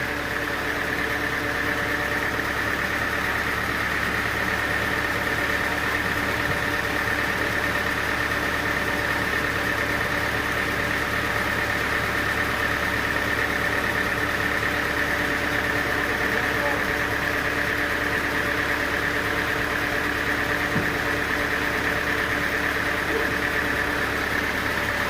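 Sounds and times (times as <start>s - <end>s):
sawmill machinery hum: 0.0s - 25.0s.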